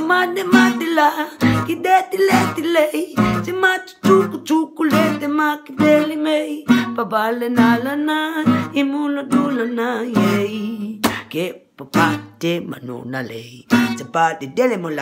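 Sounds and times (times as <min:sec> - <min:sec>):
acoustic guitar strumming: 0:00.0 - 0:12.7, 0:13.6 - 0:14.6
man singing wordless melody: 0:00.0 - 0:15.0.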